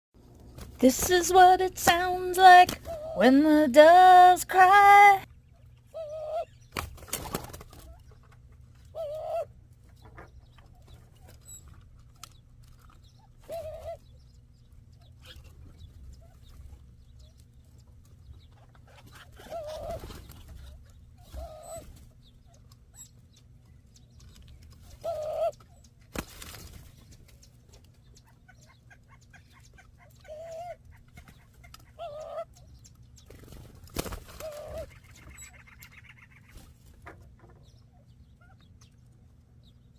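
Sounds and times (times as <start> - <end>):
doves calling: 0.4 - 39.9.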